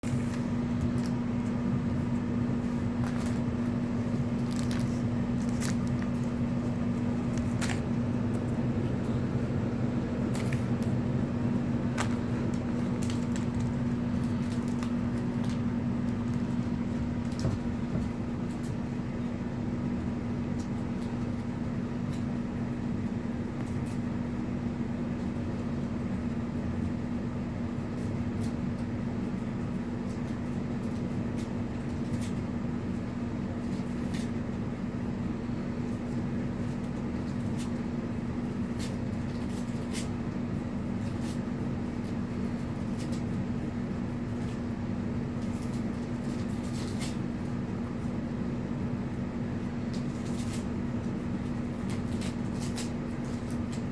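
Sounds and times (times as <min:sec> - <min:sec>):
steady machine hum: 0:00.0 - 0:53.9.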